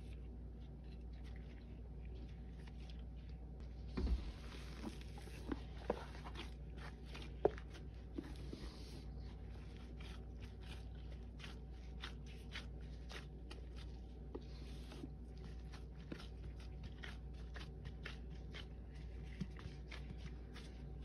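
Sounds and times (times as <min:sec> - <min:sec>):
paste squishing and crackling: 0:00.0 - 0:21.0.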